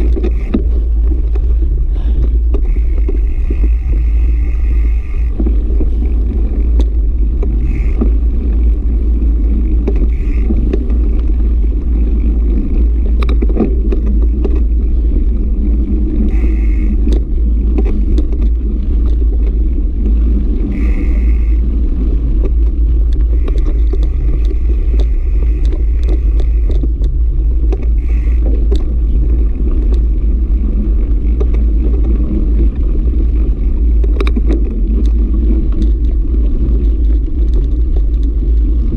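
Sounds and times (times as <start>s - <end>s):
bike knocks and rattles: 0.0s - 38.9s
bike tyre noise: 0.0s - 38.9s
wind rumble on microphone: 0.0s - 38.9s.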